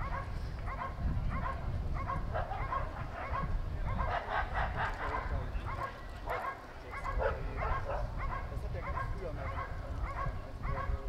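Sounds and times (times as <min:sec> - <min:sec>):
dog barking rhythmically: 0:00.0 - 0:05.3, 0:06.3 - 0:11.0.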